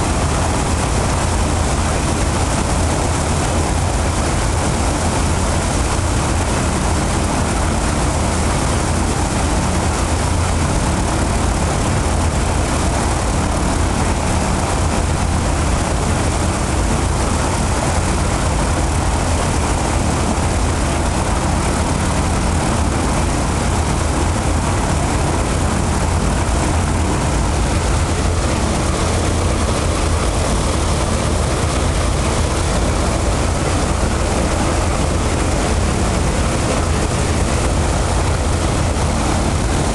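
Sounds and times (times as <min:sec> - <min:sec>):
radial piston engine rumbling: 0:00.0 - 0:39.9.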